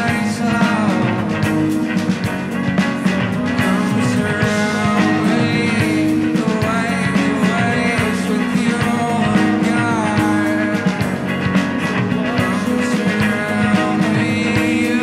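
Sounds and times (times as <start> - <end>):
man singing: 0.0 - 2.0, 2.9 - 15.0
bass guitar: 0.0 - 15.0
drums: 0.0 - 15.0
electric guitar: 0.0 - 15.0
keyboard: 0.0 - 15.0.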